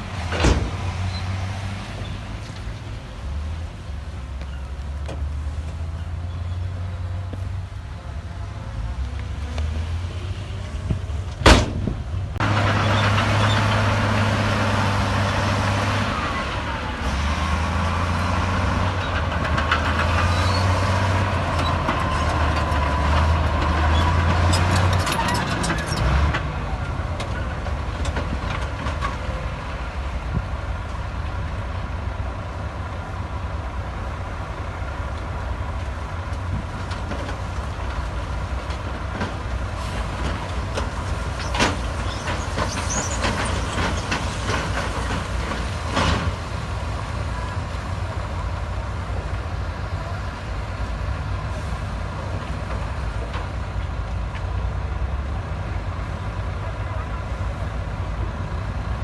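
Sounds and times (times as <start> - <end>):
heavy diesel machinery rumbling: 0.0 - 59.0.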